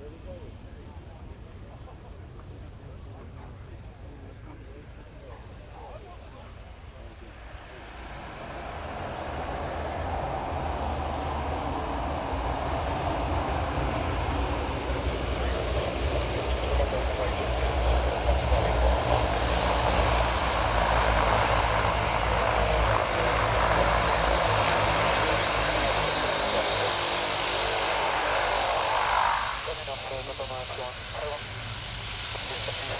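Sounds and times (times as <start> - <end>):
propeller drone: 0.0 - 32.9
turboprop engine whine: 0.0 - 32.9.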